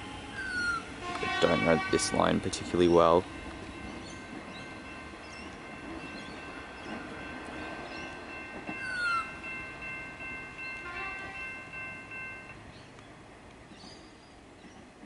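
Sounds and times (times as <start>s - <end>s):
electric train pulling away: 0.0s - 14.8s.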